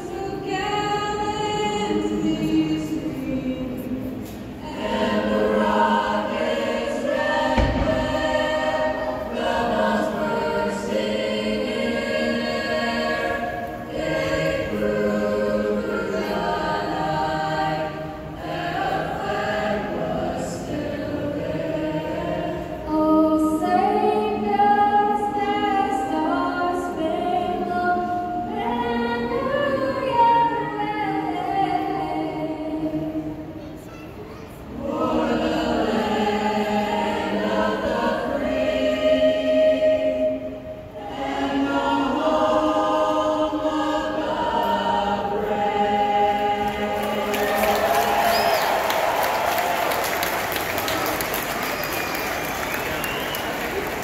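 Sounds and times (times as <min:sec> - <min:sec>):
choir singing a cappella: 0:00.0 - 0:33.7, 0:34.6 - 0:51.6.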